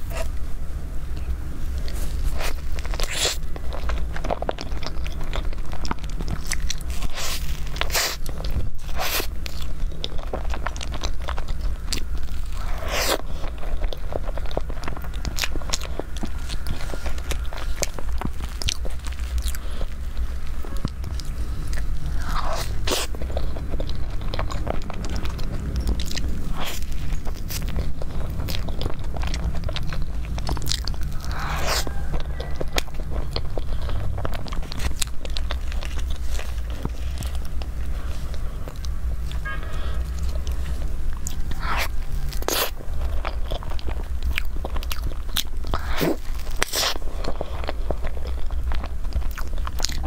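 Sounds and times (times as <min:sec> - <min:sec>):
close-miked eating and chewing: 0:00.0 - 0:50.0
steady low hum: 0:00.0 - 0:50.0.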